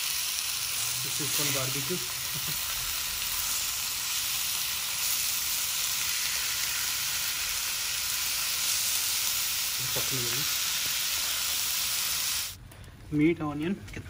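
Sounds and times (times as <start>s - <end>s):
meat sizzling in a grill pan: 0.0s - 12.6s.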